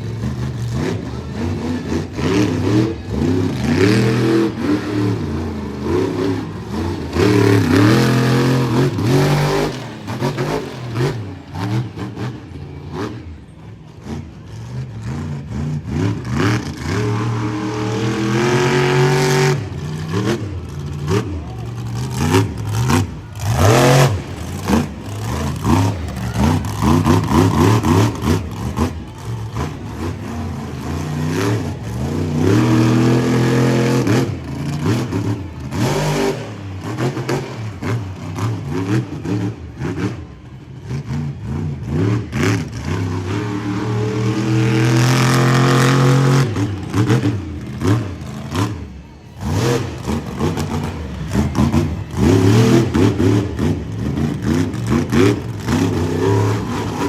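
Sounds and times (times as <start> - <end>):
monster truck engine revving: 0.0 - 57.0.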